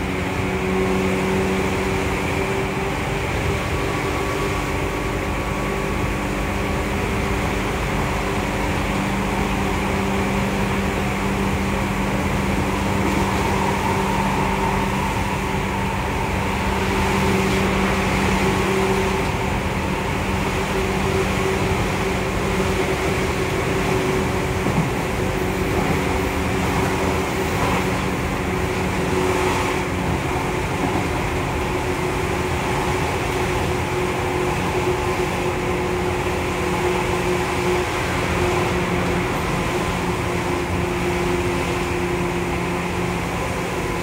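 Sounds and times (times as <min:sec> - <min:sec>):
wheel on rail rumble: 0:00.0 - 0:44.0.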